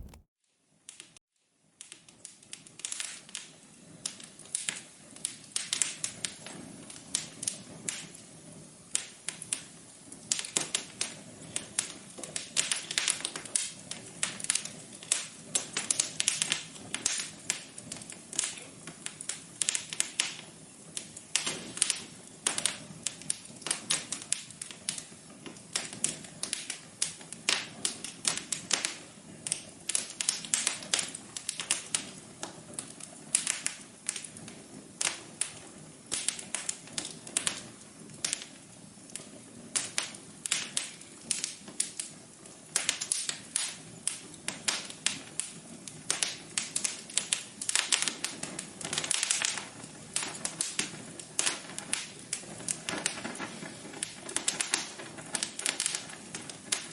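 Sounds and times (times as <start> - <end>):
wood fire crackling: 0.0 - 0.3, 0.9 - 56.9
soft hiss of fire: 0.0 - 56.9.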